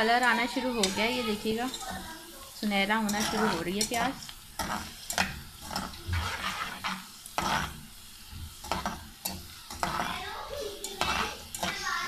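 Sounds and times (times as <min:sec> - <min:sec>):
spoon scraping a pot: 0:00.0 - 0:11.9
onions sizzling in oil: 0:00.0 - 0:12.0.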